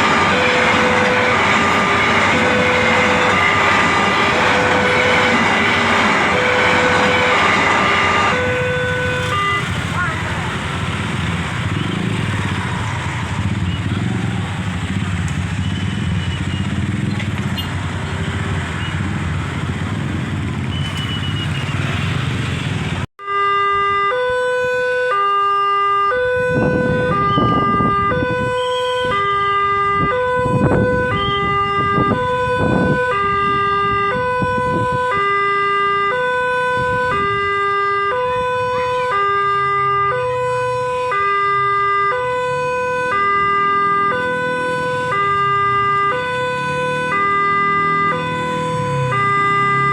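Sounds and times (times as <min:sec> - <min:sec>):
level crossing warning alarm: 0:00.0 - 0:49.9
street traffic: 0:00.0 - 0:49.9
vehicles passing: 0:00.0 - 0:49.9.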